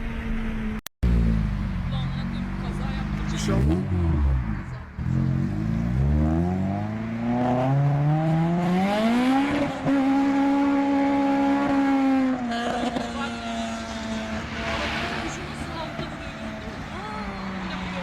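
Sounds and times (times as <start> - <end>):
car engine accelerating hard: 1.0 - 18.0.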